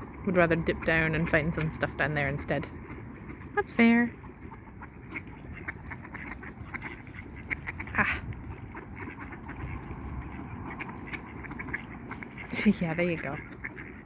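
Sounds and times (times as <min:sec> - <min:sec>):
soft duck calls: 0:00.4 - 0:14.0.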